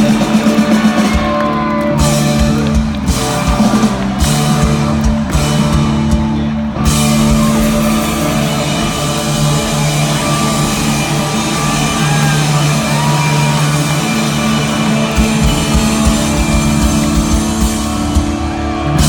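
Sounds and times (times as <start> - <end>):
bass guitar: 0.0 - 19.0
electric guitar chords: 0.0 - 19.0.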